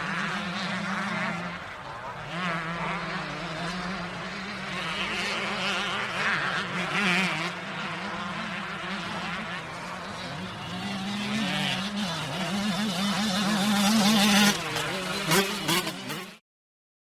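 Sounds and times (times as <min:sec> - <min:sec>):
dirt bike engine revving: 0:00.0 - 0:16.4.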